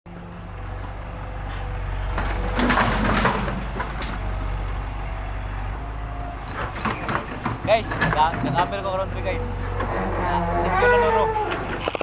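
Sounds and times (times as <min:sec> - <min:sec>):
engine humming: 0:00.1 - 0:12.0.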